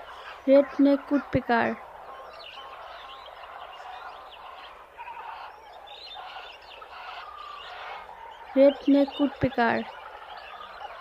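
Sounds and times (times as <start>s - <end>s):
faint bird chirps and calls: 0.0s - 11.0s.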